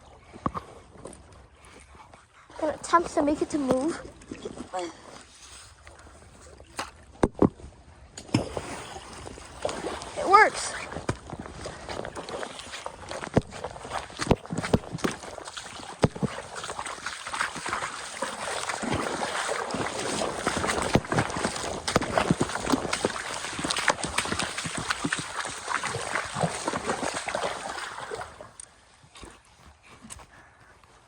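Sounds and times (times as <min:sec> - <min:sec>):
water splashing and gurgling: 0:00.0 - 0:29.0.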